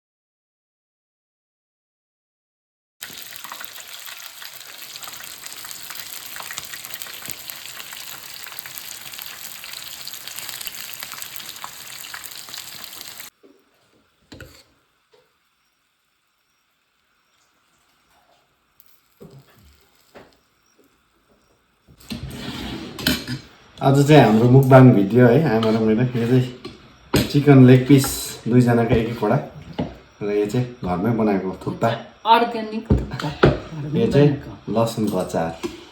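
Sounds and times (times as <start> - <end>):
food sizzling in hot oil: 3.0 - 35.9.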